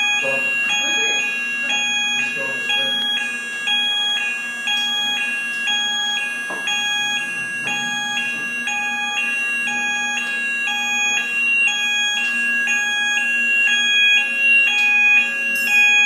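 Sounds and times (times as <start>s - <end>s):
fire alarm sounder: 0.0s - 16.0s.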